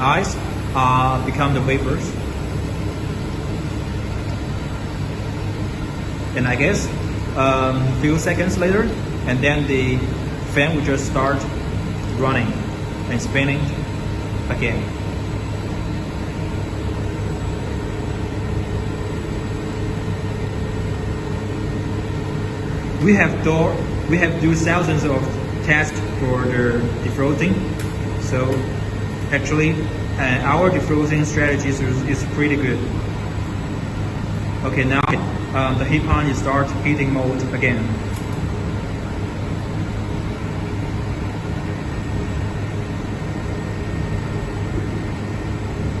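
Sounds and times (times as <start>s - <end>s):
heat pump unit humming: 0.0s - 46.0s.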